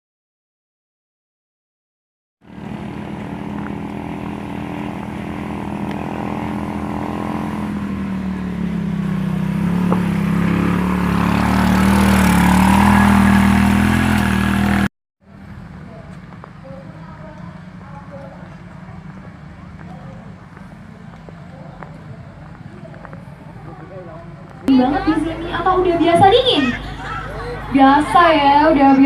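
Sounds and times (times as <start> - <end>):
engine running: 2.4 - 29.0.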